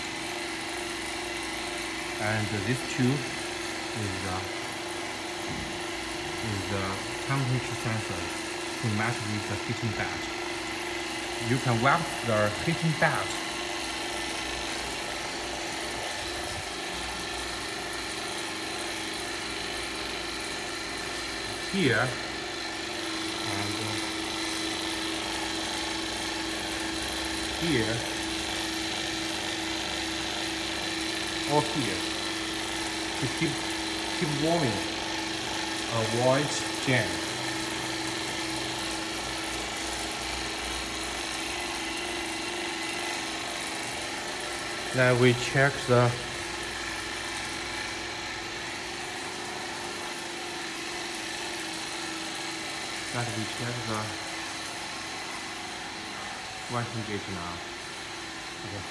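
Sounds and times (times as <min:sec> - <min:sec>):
machinery humming: 0:00.0 - 0:58.9.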